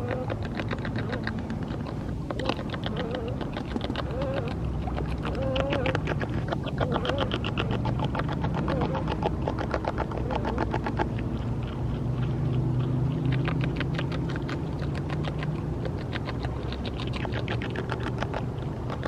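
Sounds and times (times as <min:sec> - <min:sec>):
beaver chewing with crunching clicks: 0:00.0 - 0:19.0
steady low hum: 0:00.0 - 0:19.0.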